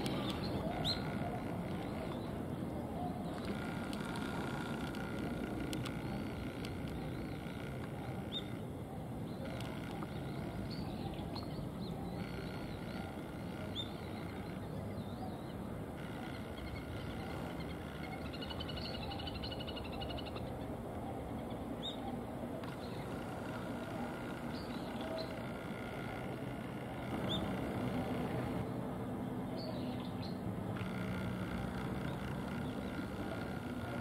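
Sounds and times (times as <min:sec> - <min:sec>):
rapid pulsing bird trill: 0:00.0 - 0:28.7.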